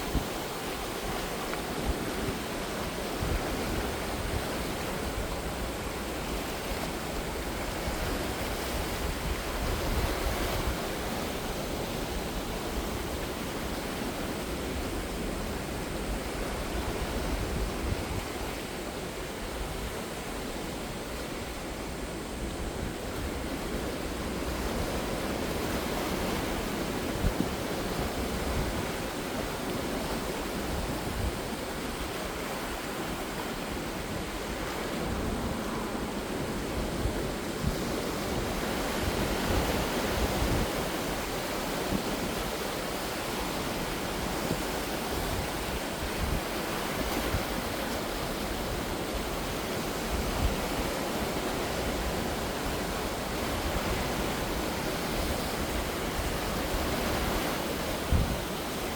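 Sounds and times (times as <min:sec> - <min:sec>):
sea waves washing ashore: 0:00.0 - 0:58.9.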